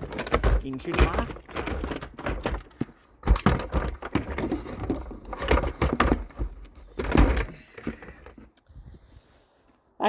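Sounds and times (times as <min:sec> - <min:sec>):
objects knocking and thumping: 0:00.0 - 0:08.6.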